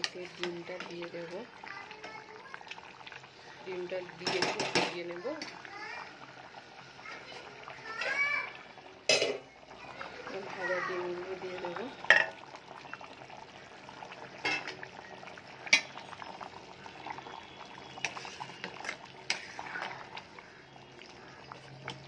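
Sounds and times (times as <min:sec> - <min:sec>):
curry simmering in pot: 0:00.0 - 0:22.0.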